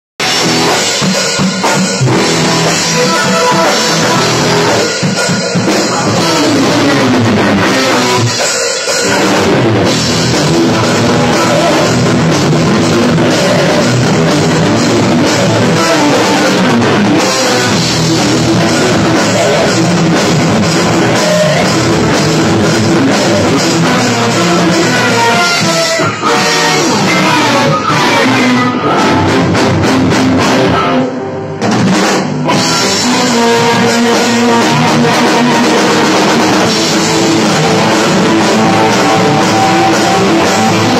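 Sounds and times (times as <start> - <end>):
rock band playing instrumental: 0.2 - 40.9.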